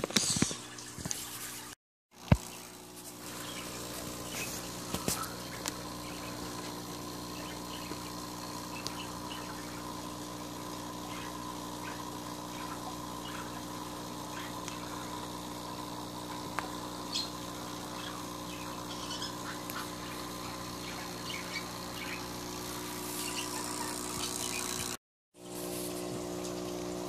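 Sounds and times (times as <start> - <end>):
aquarium equipment humming: 0.0 - 27.0.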